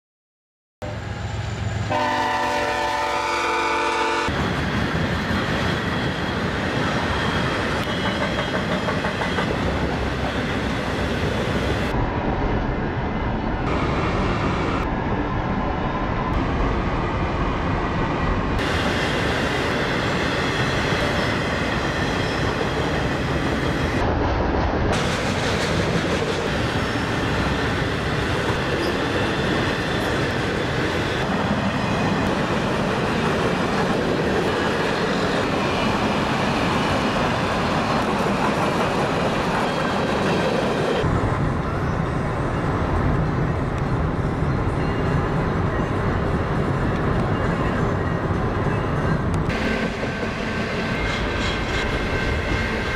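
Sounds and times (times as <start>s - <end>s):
steel train wheels on rails: 4.1s - 12.0s, 16.4s - 52.9s.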